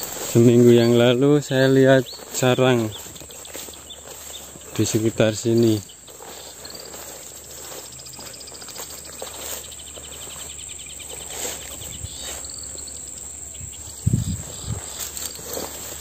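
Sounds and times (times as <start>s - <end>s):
footsteps through low vegetation: 0.0s - 16.0s
insects trilling: 0.0s - 16.0s.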